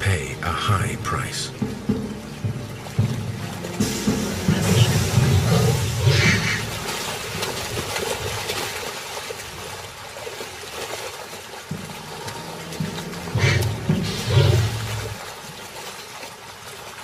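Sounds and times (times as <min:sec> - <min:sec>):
river water splashing and churning: 0:00.0 - 0:17.0.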